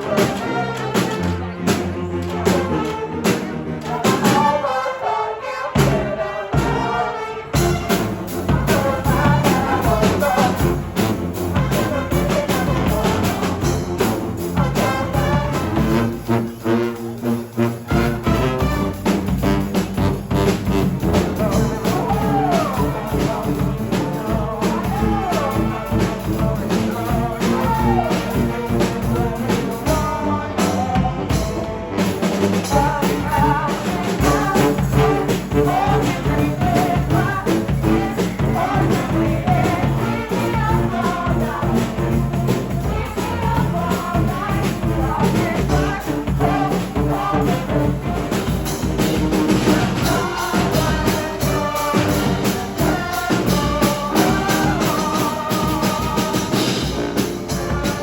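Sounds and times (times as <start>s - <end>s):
drums beating: 0.0s - 4.7s, 5.8s - 58.0s
brass band playing: 0.0s - 58.0s.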